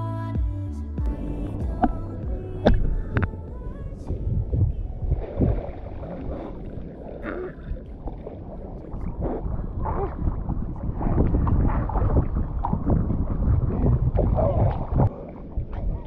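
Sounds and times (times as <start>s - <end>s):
water sloshing and lapping: 1.5s - 16.0s.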